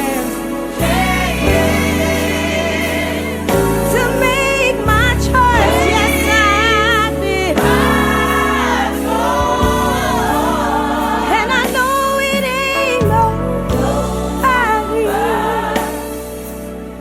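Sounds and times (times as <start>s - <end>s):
bass and keyboard accompaniment: 0.0s - 17.0s
choir singing: 0.0s - 17.0s.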